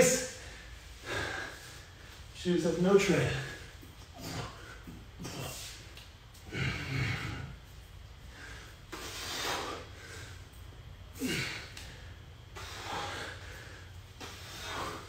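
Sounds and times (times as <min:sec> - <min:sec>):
man breathing hard: 0:00.0 - 0:02.4, 0:03.2 - 0:15.0.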